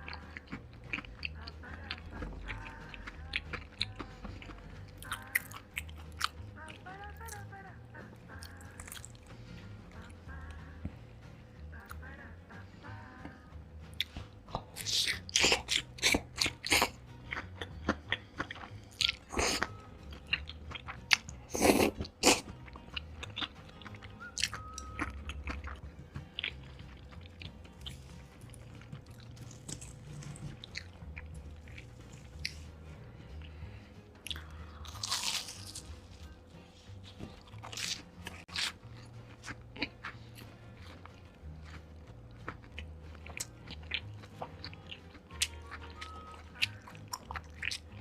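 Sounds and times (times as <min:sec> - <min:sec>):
person eating crunchy food: 0:00.0 - 0:06.5, 0:08.3 - 0:10.9, 0:13.9 - 0:48.0.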